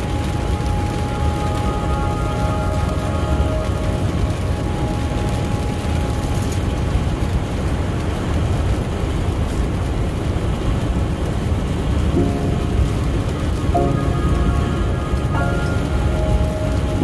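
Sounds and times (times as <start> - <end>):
deep rumble: 0.0 - 17.0
rain hissing: 0.0 - 17.0.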